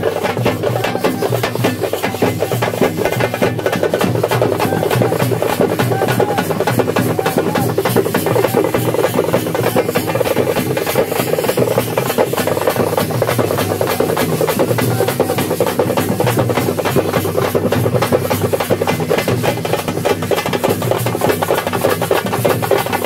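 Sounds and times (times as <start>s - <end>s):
procession drums drumming fast: 0.0s - 23.0s.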